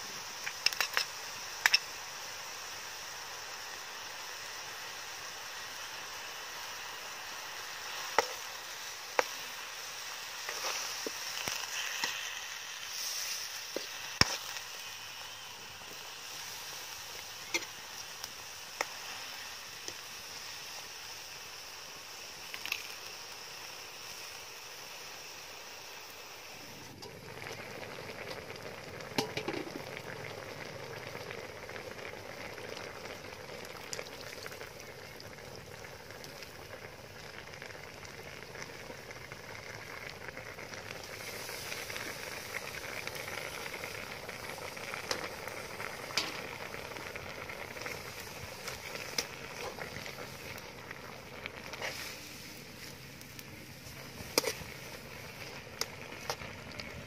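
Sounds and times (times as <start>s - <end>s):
soup bubbling and hissing: 0.0s - 57.0s.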